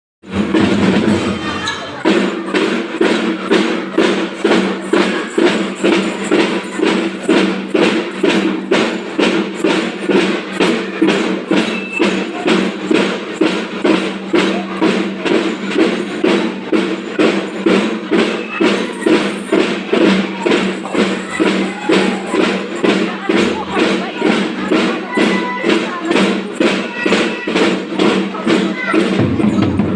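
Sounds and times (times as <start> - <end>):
marching drum band: 0.2 - 29.9.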